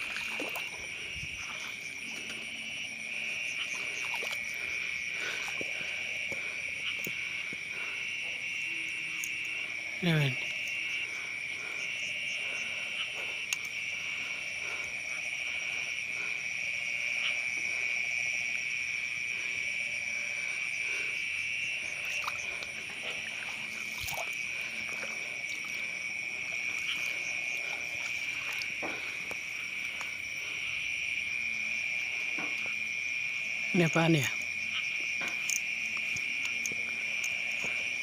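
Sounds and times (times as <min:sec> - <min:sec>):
night insects trilling: 0:00.0 - 0:38.0.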